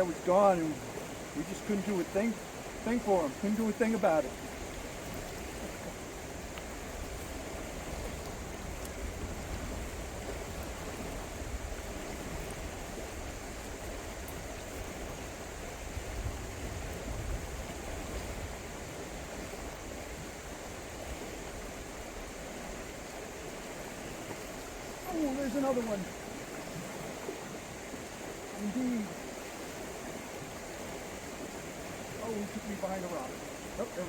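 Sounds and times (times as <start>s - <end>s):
river water rushing: 0.0s - 34.0s.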